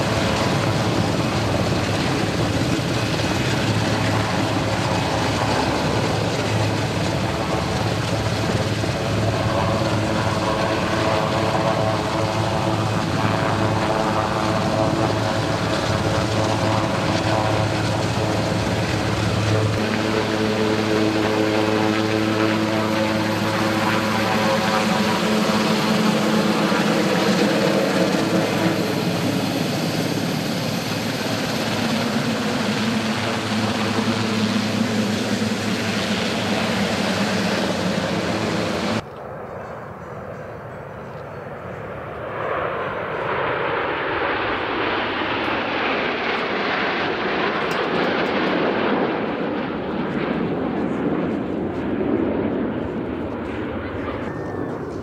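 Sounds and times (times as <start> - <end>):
helicopter rotor beat: 0.0 - 39.4, 41.5 - 55.0
helicopter turbine noise: 0.0 - 55.0.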